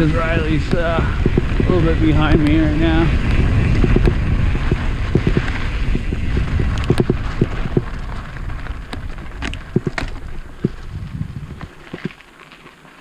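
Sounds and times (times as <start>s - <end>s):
low rumble: 0.0s - 11.8s
bike clicks and rattles: 0.0s - 13.0s
bike tyres crackling over dirt: 0.0s - 13.0s.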